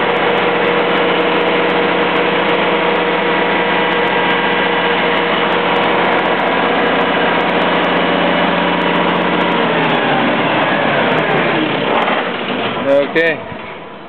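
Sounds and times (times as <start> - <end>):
diesel generator running: 0.0 - 14.0.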